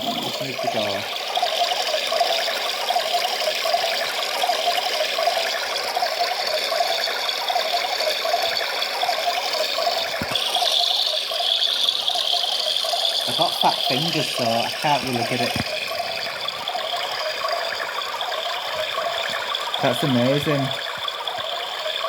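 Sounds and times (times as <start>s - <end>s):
small motor hum pulsing: 0.0s - 22.0s.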